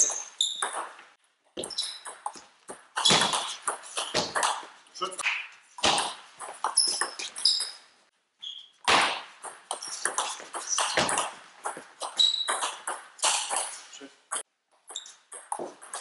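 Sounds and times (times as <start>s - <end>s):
shoes squeaking on floor: 0.0s - 4.5s, 5.8s - 8.8s, 9.4s - 16.0s.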